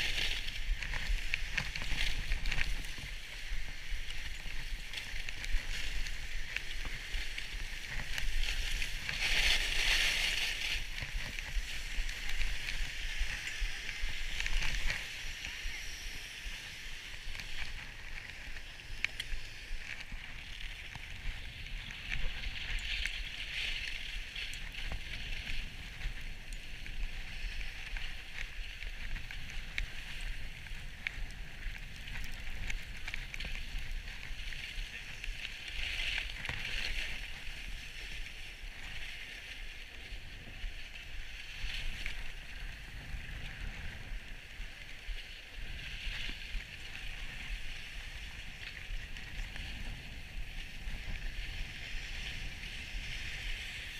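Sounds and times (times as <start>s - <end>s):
skis scraping over packed snow: 0.0s - 53.9s.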